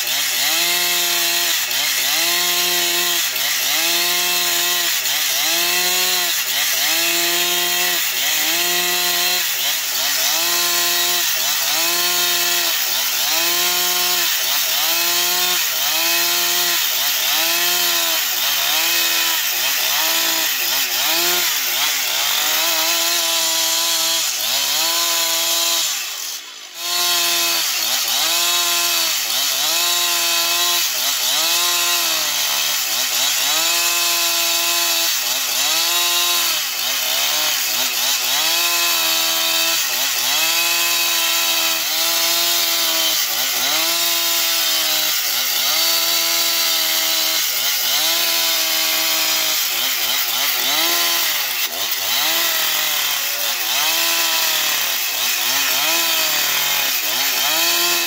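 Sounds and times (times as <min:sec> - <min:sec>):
chainsaw cutting through log: 0:00.0 - 0:58.0.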